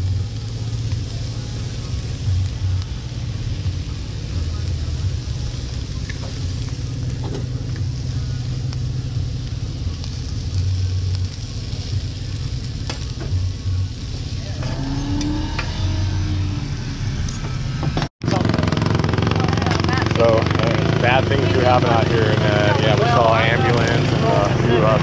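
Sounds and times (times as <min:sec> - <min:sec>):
food sizzling on a griddle: 0:00.0 - 0:25.0
steady low rumble: 0:00.0 - 0:25.0.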